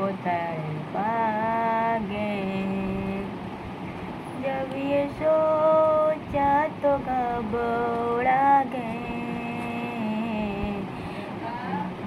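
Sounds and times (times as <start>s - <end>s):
woman singing unaccompanied: 0.0s - 3.4s, 4.4s - 12.0s.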